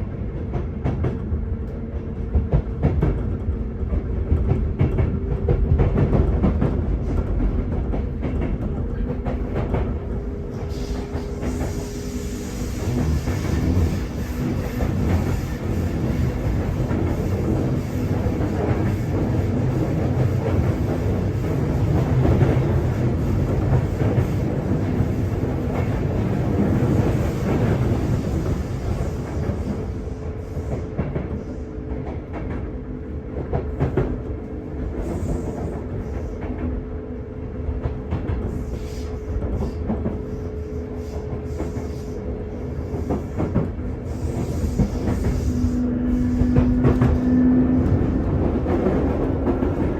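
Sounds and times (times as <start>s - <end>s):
train wheel and rail rumble: 0.0s - 49.9s.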